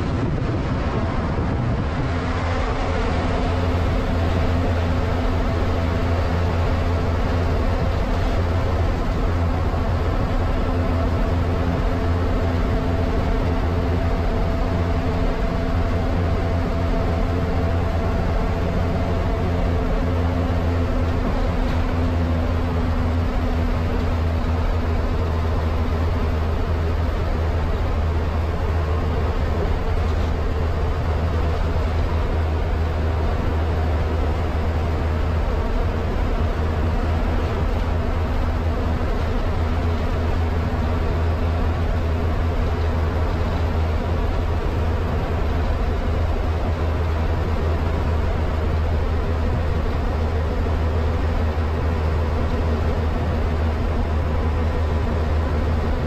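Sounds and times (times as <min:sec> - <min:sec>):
bus diesel engine rumble: 0:00.0 - 0:56.0
tyre and road noise: 0:00.0 - 0:56.0.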